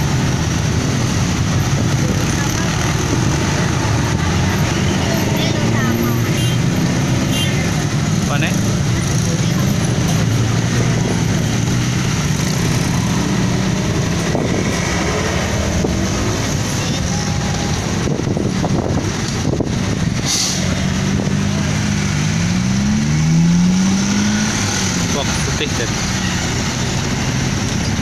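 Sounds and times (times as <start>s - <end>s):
traffic crossing railway rails: 0.0s - 28.0s
truck engine revving: 0.0s - 28.0s.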